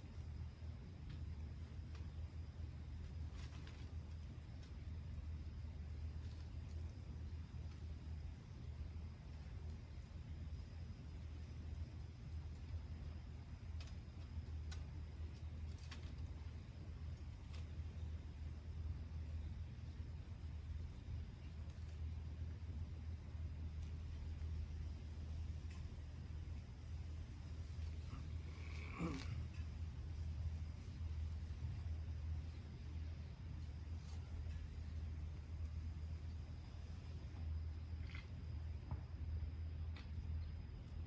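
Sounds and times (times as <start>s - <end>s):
high-pitched insect chirp: 0.0s - 41.0s
low steady rumble: 0.0s - 41.0s.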